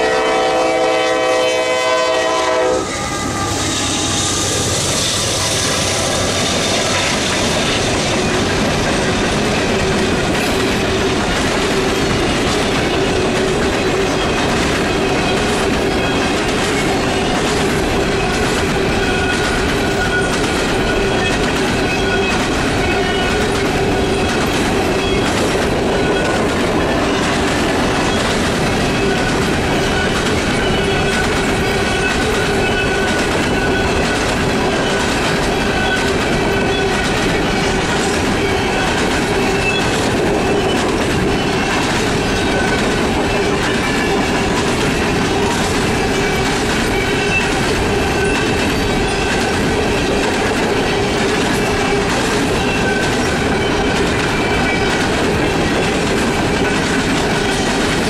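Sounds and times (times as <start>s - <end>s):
thin squeal of wheels on rail: 0.0s - 58.0s
train wheels clattering over rail joints: 4.4s - 58.0s.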